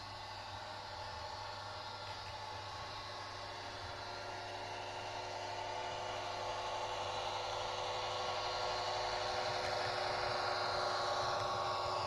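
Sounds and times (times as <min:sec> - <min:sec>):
model train motor hum: 0:00.0 - 0:12.0.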